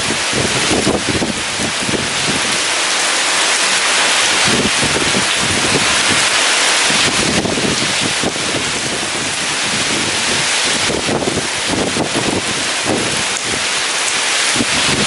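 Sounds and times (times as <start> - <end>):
heavy rain: 0.0 - 15.0
wind gusting: 0.0 - 15.0.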